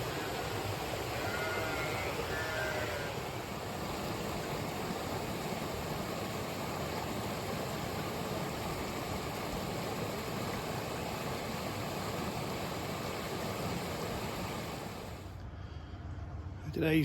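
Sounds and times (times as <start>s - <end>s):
flooded creek rushing: 0.0s - 15.4s.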